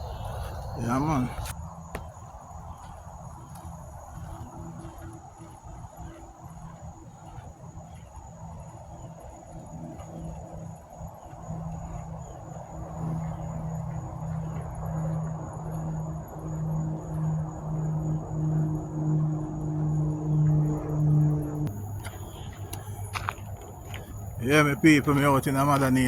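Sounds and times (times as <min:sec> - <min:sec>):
crickets chirring: 0:00.0 - 0:26.0
low pulsing hum: 0:00.0 - 0:26.0.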